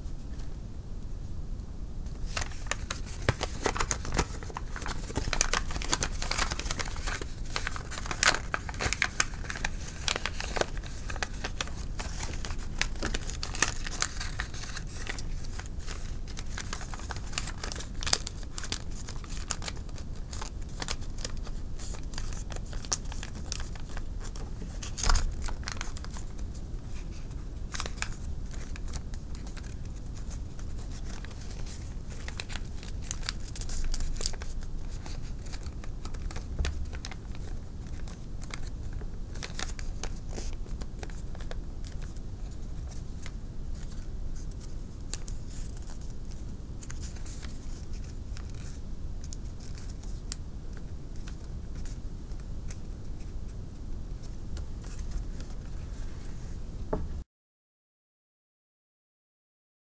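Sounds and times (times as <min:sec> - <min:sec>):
paper crinkling and crackling: 0:02.0 - 0:53.4, 0:54.2 - 0:56.5.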